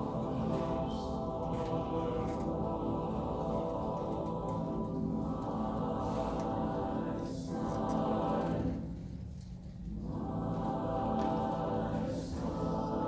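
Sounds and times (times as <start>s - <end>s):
ensemble holding sustained chords: 0.0s - 13.0s.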